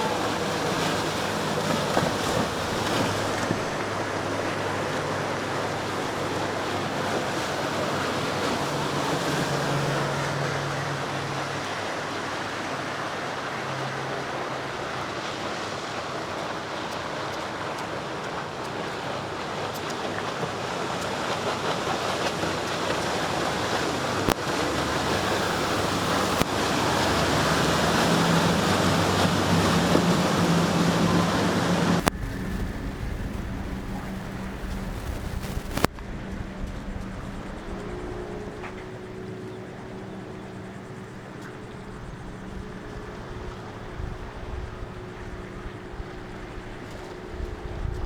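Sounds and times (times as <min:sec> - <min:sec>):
breaking surf: 0:00.0 - 0:39.3
boat engines humming: 0:00.0 - 0:48.0
wind: 0:00.0 - 0:48.0.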